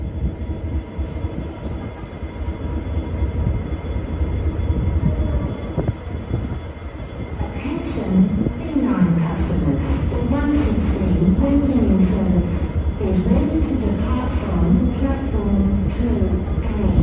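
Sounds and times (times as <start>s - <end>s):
train diesel engines rumbling: 0.0s - 17.0s.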